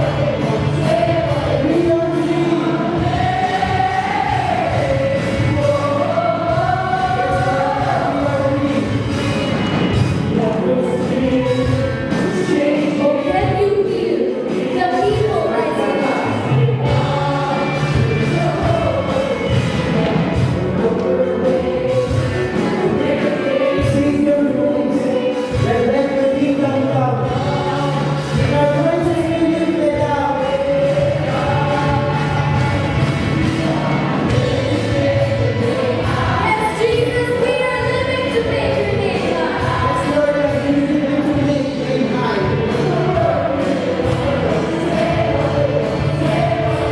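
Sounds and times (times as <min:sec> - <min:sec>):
band with bass and beat: 0:00.0 - 0:46.9
group singing in chorus: 0:00.0 - 0:46.9.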